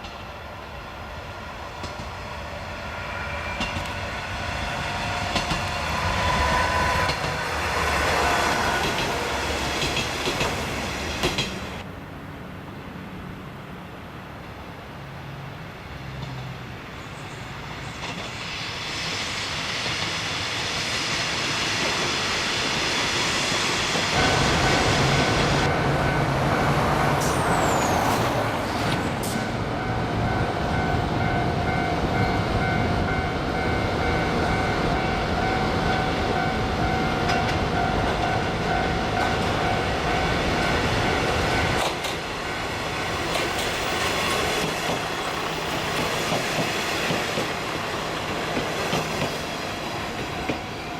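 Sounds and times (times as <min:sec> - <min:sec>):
train wheels on rails: 0:00.0 - 0:11.9, 0:16.1 - 0:50.9
diesel railcar engine: 0:00.0 - 0:50.9.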